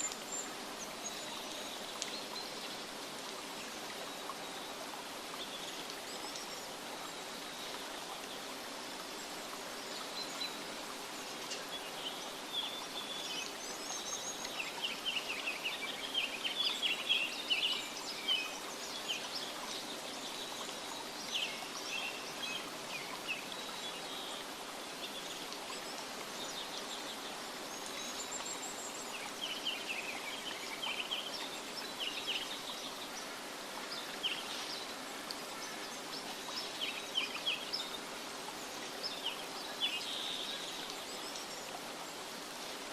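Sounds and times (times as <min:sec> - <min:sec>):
outdoor ambient hiss: 0:00.0 - 0:42.9.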